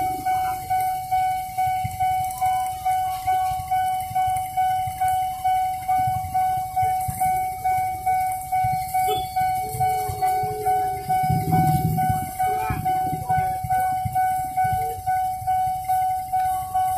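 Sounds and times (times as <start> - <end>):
level-crossing warning bell ringing: 0.0 - 16.9
low traffic rumble: 0.0 - 16.9.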